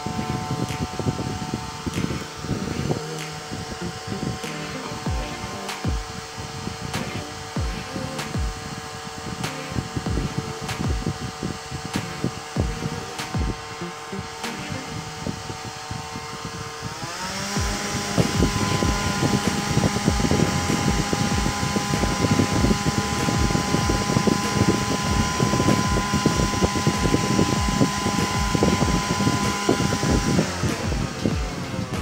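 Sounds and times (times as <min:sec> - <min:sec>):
rattling rush of air: 0:00.0 - 0:32.0
small fan motor whining: 0:00.0 - 0:32.0.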